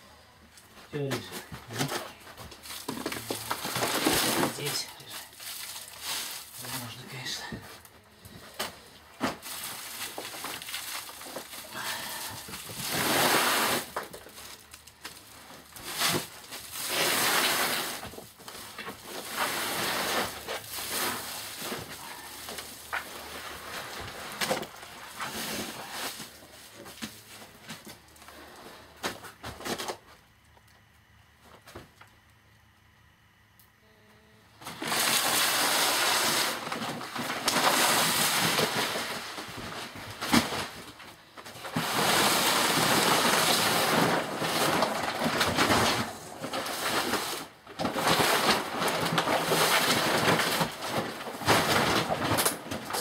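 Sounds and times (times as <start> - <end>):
sacks rustling and scraping: 0.4 - 30.4, 34.6 - 53.0.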